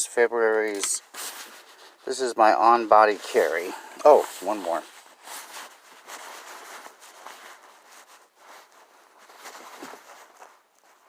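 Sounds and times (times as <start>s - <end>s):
clothing rustling: 0.5s - 11.0s.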